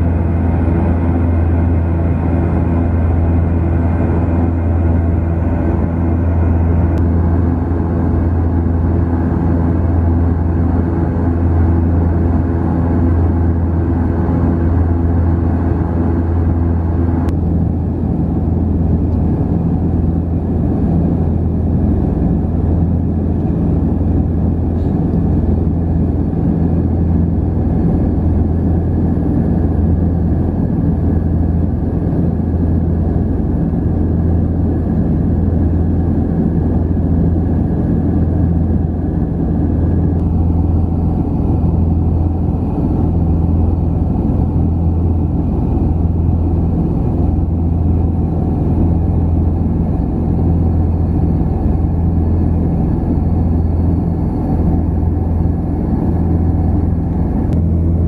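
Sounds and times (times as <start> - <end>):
turboprop engines droning in flight: 0.0 - 58.0.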